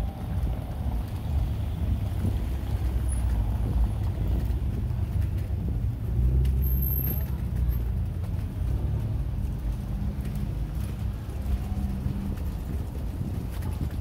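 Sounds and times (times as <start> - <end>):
car driving on cobbles: 0.0 - 14.0.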